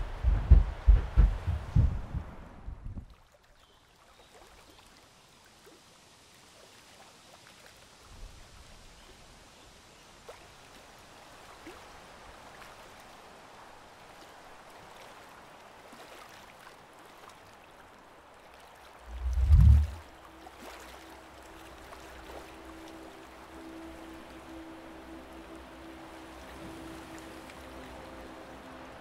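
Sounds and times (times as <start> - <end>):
water lapping and trickling: 0.0 - 29.0.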